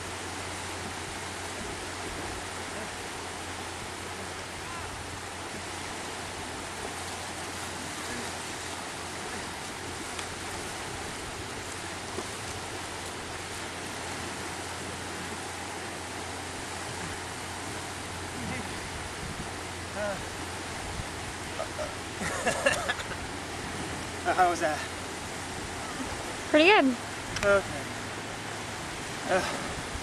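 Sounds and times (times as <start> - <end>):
lake waves on sandy beach: 0.0 - 30.0.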